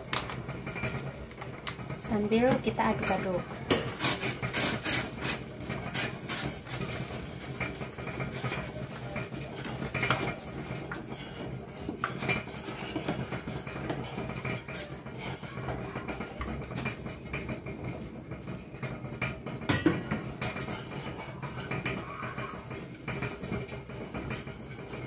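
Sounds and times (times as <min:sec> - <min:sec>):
spoon scraping a metal pot: 0:02.4 - 0:17.4, 0:19.7 - 0:25.0.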